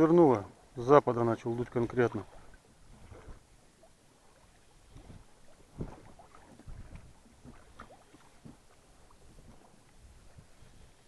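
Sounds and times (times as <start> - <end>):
waves slapping boat hull: 0.0 - 11.0.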